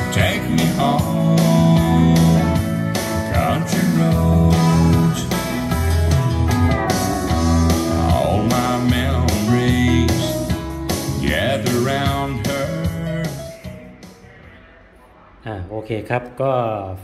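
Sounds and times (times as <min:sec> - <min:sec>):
song with guitar beat and vocals: 0:00.0 - 0:14.4.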